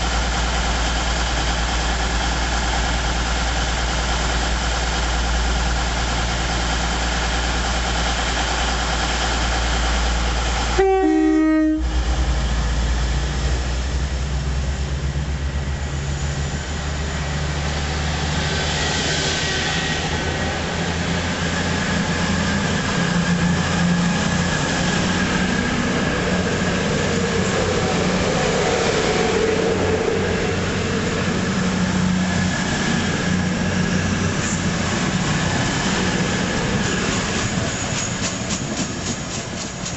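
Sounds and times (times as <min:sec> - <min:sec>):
diesel train passing: 0:00.0 - 0:39.9.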